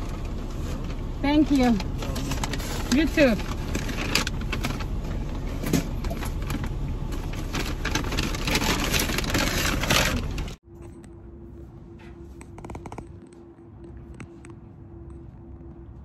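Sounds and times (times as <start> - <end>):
car road and engine noise: 0.0 - 16.0
steady low hum: 0.0 - 16.0.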